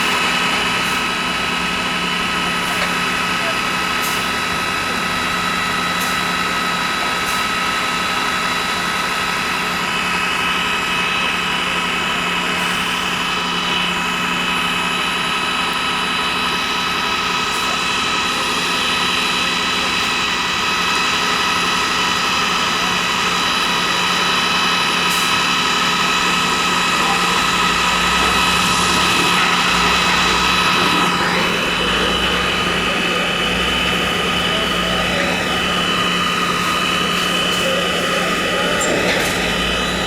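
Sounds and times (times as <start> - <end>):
engine-like drone with hiss: 0.0 - 40.0.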